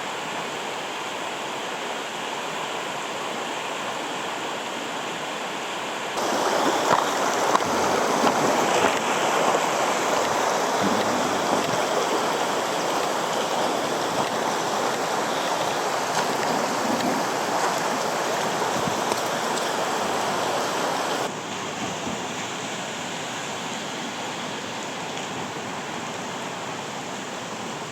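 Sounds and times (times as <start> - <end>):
water rushing over rocks: 0.0 - 27.9.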